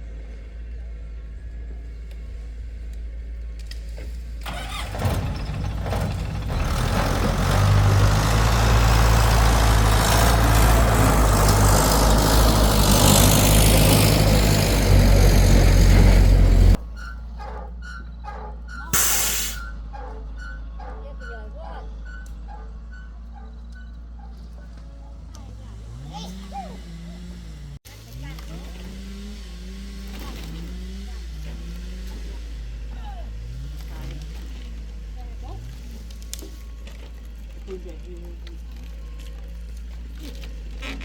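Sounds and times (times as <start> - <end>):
heavy vehicle engine: 0.0 - 41.0.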